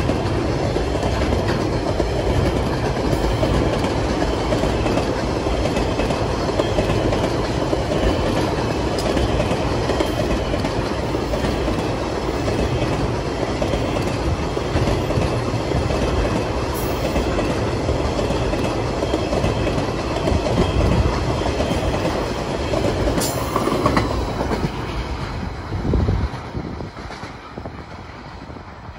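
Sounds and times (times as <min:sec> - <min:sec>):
train wagons rumbling and rattling: 0:00.0 - 0:28.9.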